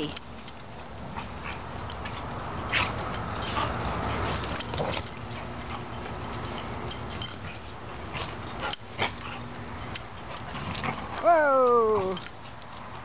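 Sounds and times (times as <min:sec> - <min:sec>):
dogs scuffling: 0:00.0 - 0:13.0.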